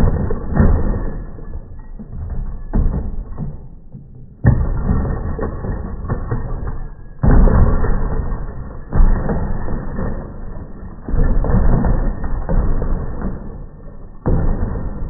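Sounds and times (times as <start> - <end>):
plastic toy car hitting steps: 0.0 - 15.0.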